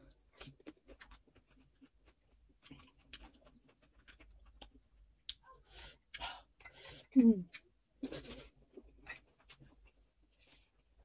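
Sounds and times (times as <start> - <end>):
soft chewing with mouth clicks: 0.0 - 11.0.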